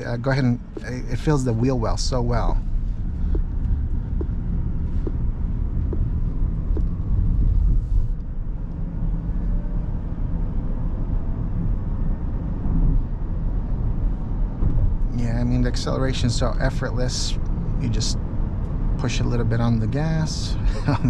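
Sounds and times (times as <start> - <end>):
road and tyre rumble in car cabin: 0.0 - 21.0.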